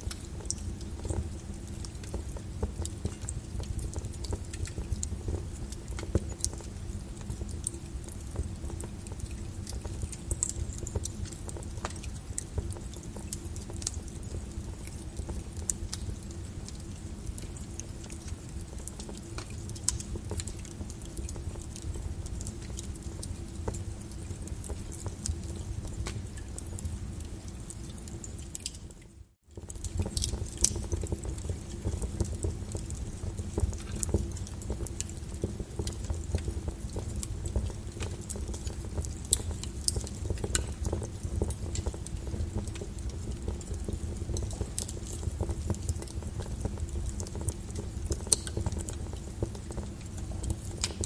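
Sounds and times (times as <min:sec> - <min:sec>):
rain on a window: 0:00.0 - 0:51.0
wood fire crackling and popping: 0:00.0 - 0:51.0.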